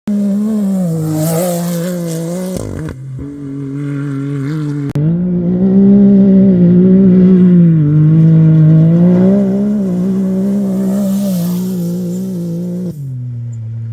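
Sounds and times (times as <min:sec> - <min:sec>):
race vehicle engine revving: 0:00.0 - 0:13.4.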